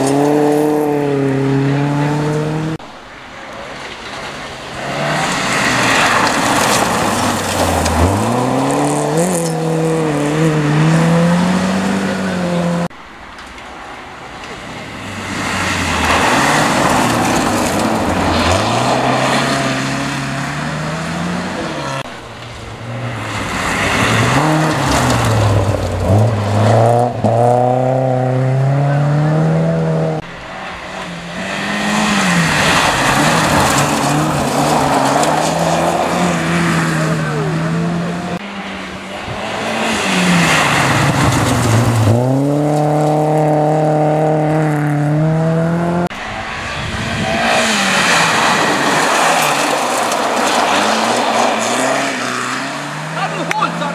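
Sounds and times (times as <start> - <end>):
tyres rushing on gravel: 0.0 - 27.5, 30.3 - 44.6, 46.1 - 53.9
rally car engines at full throttle: 0.0 - 53.9.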